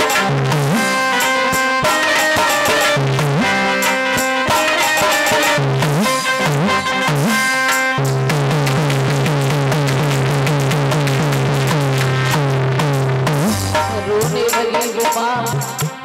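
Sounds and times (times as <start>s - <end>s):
electronic keyboard and drums: 0.0s - 16.0s.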